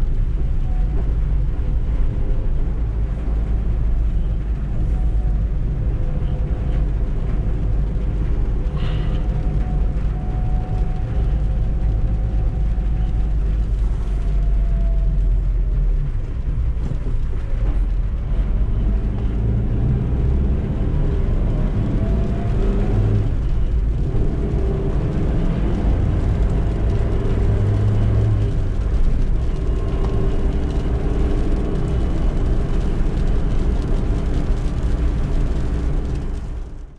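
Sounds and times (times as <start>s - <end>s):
road noise: 0.0s - 36.9s.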